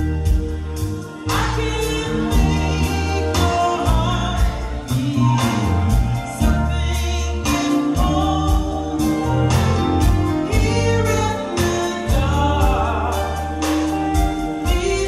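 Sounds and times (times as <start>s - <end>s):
bass notes: 0.0s - 15.0s
drum and cymbal strikes: 0.0s - 15.0s
woman singing soul ballad: 0.0s - 15.0s.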